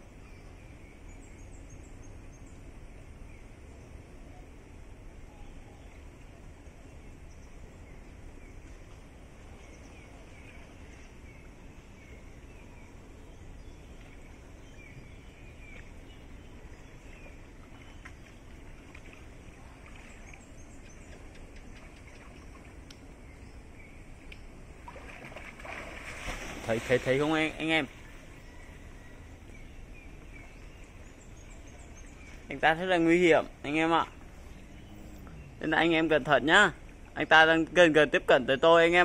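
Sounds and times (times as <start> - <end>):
low background rumble: 0.0 - 26.7, 27.5 - 37.4.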